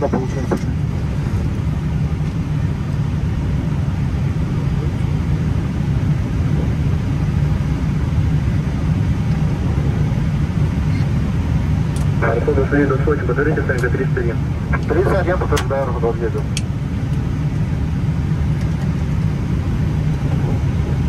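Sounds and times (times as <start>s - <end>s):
jet taxiing rumble: 0.0s - 21.0s.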